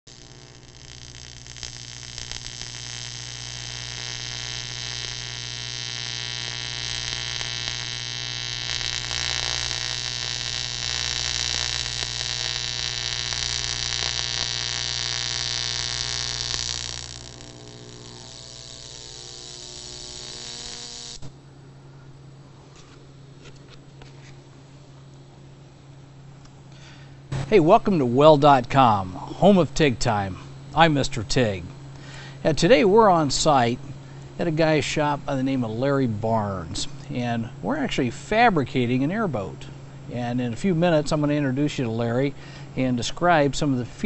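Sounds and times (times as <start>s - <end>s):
welding arc buzzing hiss: 0.0s - 21.4s, 22.1s - 44.0s
electrical hum: 0.0s - 44.0s.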